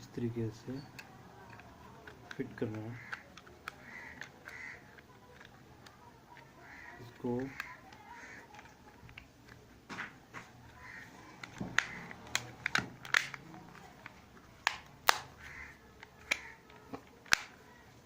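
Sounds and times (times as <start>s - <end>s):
plastic clicks and snaps: 0.8s - 18.0s.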